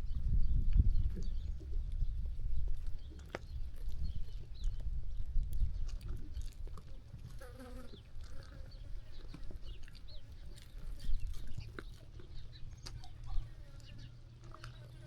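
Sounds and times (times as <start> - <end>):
sheep clicks and rustles: 0.7 - 15.0.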